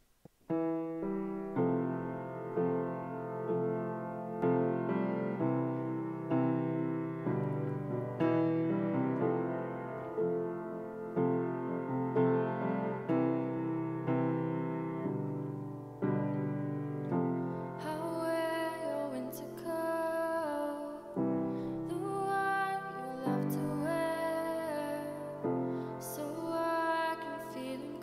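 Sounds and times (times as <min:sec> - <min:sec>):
piano chords: 0:00.5 - 0:28.0.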